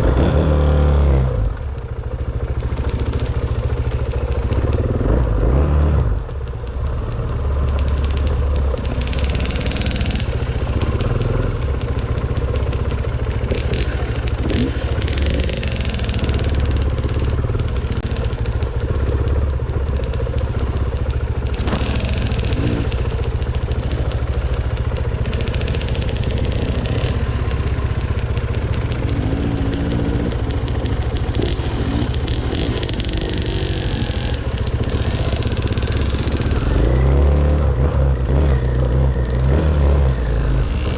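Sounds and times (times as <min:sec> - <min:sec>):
clatter: 0:00.0 - 0:40.9
dirt bike engine running: 0:00.0 - 0:40.9.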